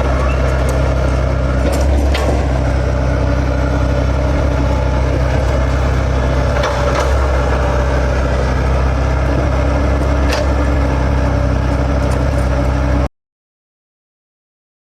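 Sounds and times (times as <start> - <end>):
excavator diesel engine running: 0.0 - 13.1.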